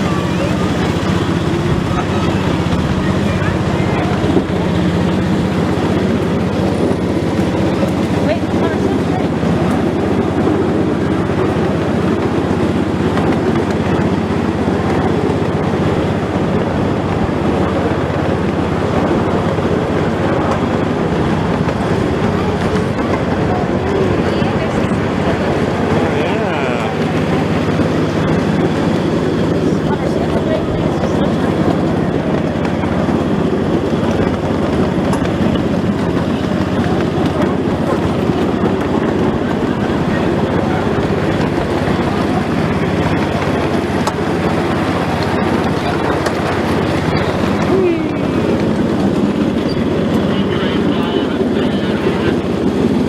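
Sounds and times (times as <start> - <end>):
train carriage rumbling on track: 0.0 - 53.0.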